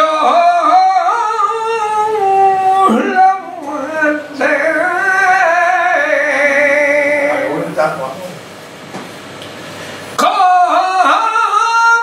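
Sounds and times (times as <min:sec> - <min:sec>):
man singing unaccompanied: 0:00.0 - 0:08.0, 0:10.2 - 0:12.0.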